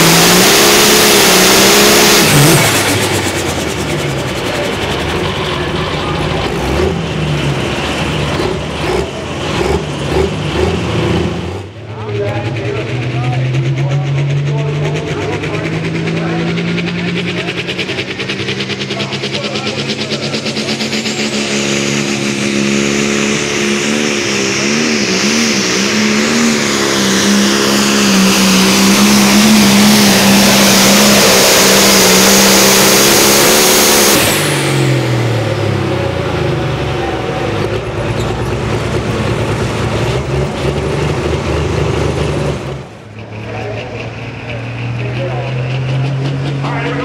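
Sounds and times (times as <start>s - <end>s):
diesel tractor engine at full throttle: 0.0s - 47.0s
high turbo whine: 0.0s - 47.0s.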